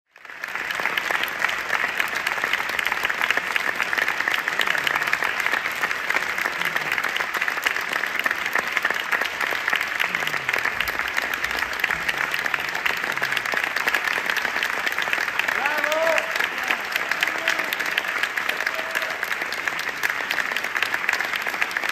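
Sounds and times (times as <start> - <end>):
audience applauding: 0.1 - 21.9.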